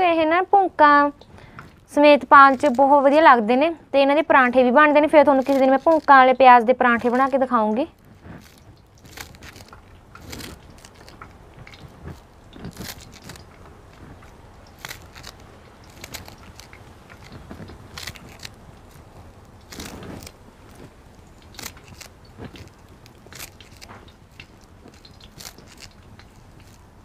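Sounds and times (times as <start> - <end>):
knife cutting spring onions: 4.5 - 27.0.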